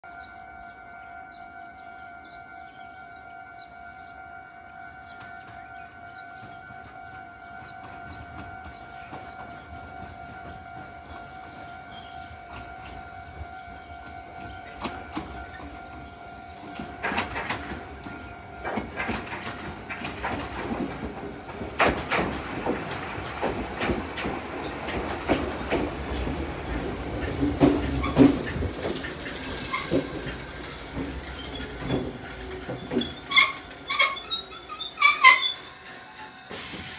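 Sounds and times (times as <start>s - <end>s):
train wheels clacking over rail joints: 6.3s - 13.3s, 14.0s - 36.9s.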